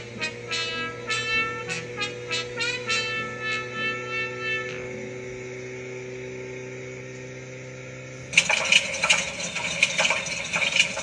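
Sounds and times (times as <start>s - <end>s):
engine spluttering and stalling: 0.0s - 11.0s
steady low hum: 0.0s - 11.0s.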